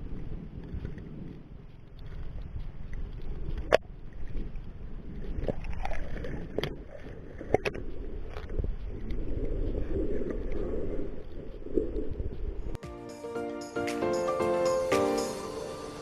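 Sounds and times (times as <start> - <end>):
water and wind rumble: 0.0 - 12.8, 14.4 - 16.0.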